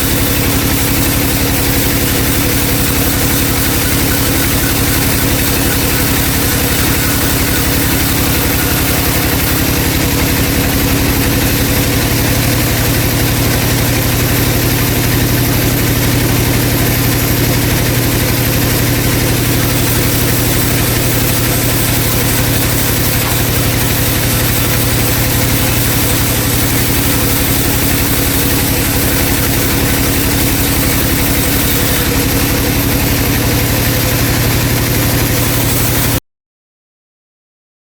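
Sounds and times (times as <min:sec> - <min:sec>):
band saw drone: 0:00.0 - 0:36.2.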